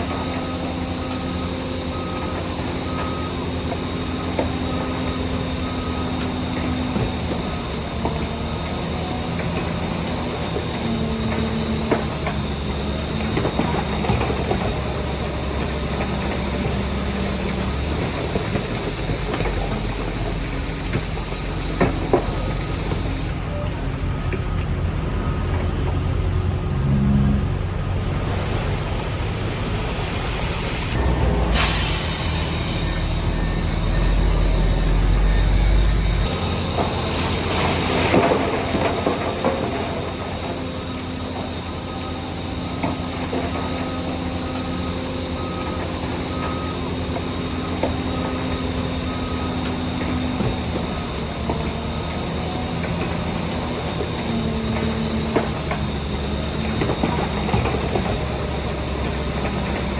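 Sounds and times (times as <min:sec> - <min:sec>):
machinery hiss and clatter: 0:00.0 - 0:23.5, 0:28.2 - 0:59.9
diesel engine running: 0:00.0 - 0:59.9.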